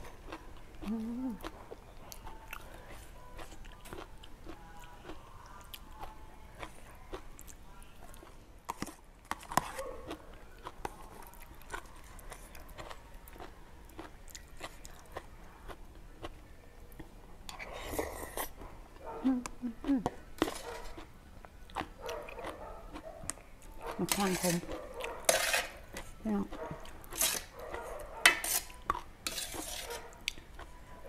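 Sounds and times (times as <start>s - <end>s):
mouth chewing sounds: 0.0s - 30.8s.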